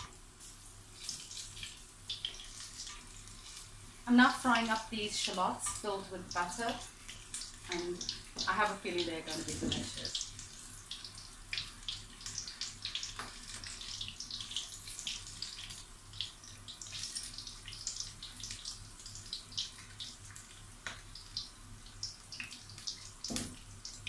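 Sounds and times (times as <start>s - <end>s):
food deep-frying in hot oil: 0.0s - 24.0s.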